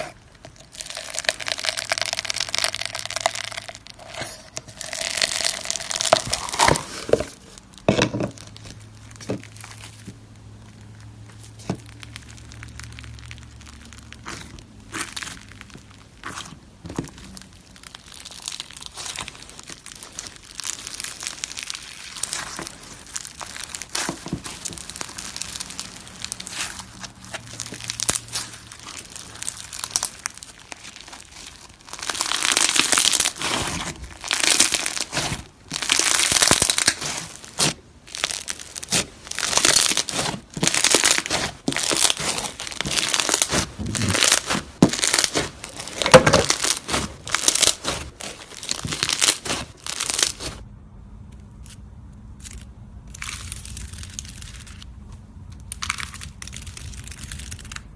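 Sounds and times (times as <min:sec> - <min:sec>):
slime squelching by hand: 0:00.0 - 0:50.7.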